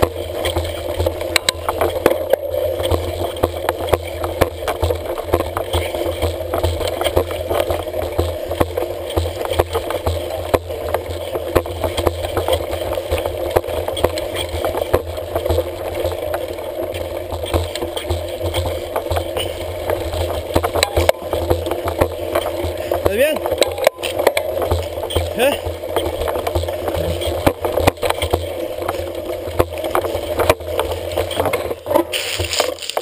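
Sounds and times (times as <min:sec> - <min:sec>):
bike rattling over dirt trail: 0:00.0 - 0:33.0.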